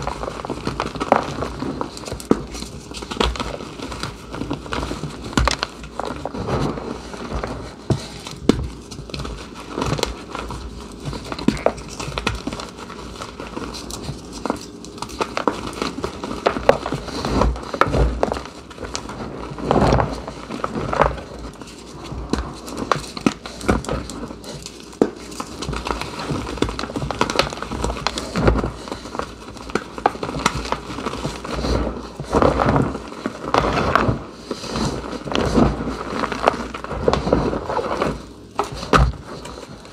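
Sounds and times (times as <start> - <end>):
hands crushing chalk: 0.0 - 39.9.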